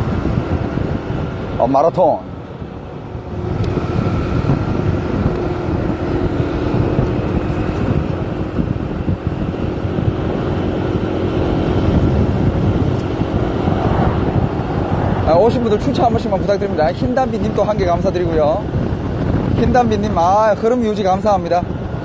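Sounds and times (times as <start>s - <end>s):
engine and road rumble: 0.0s - 22.0s
wind buffeting microphone: 0.0s - 22.0s.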